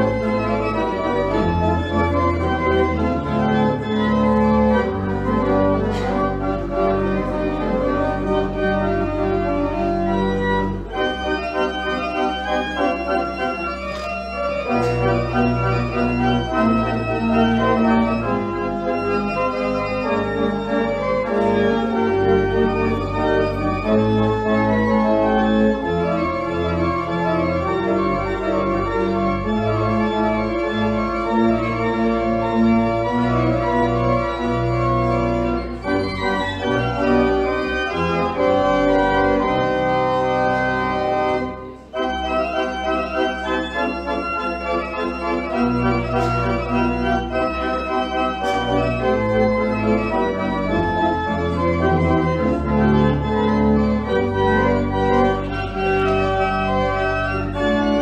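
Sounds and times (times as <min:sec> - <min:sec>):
church pipe organ playing chords: 0:00.0 - 0:58.0.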